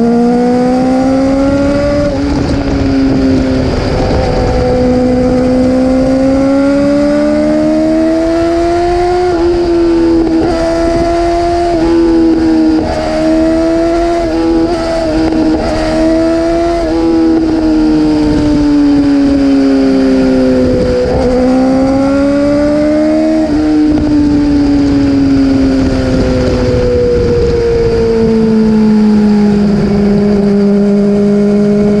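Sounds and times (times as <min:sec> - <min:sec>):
motorcycle engine revving high: 0:00.0 - 0:32.0.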